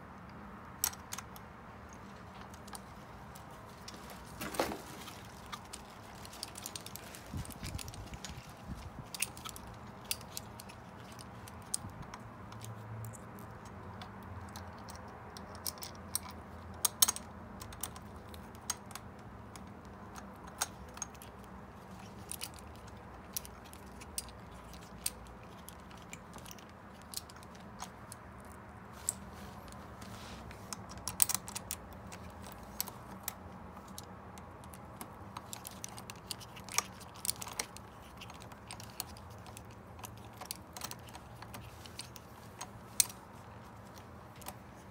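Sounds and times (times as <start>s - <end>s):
small clicks and taps on bicycle parts: 5.1s - 29.8s, 30.5s - 44.9s.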